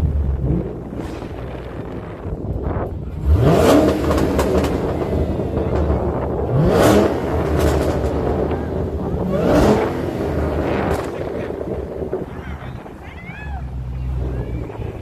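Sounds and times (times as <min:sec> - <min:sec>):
car engine accelerating hard: 0:00.0 - 0:15.0
low engine rumble: 0:00.0 - 0:15.0.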